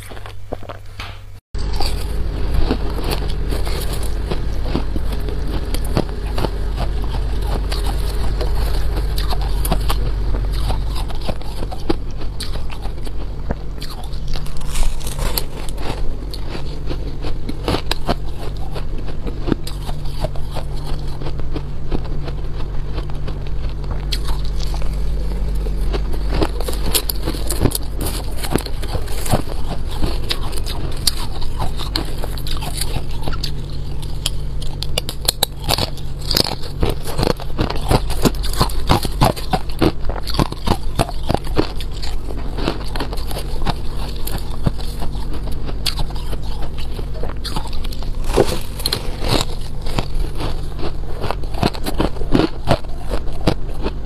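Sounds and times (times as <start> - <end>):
frost being chewed and crunched: 0.0 - 1.0, 1.6 - 54.0
steady low hum: 0.0 - 54.0.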